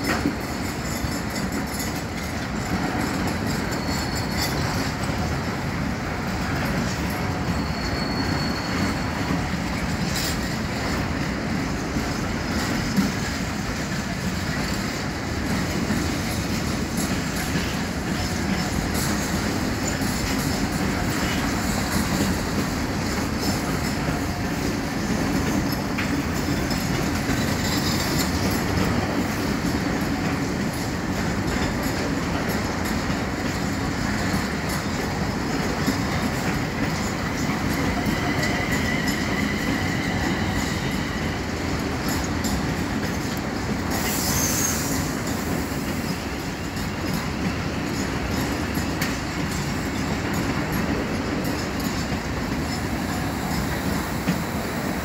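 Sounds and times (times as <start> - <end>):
train wheels rumbling on track: 0.0 - 55.0
faint high wheel squeals: 0.1 - 11.2, 16.3 - 55.0.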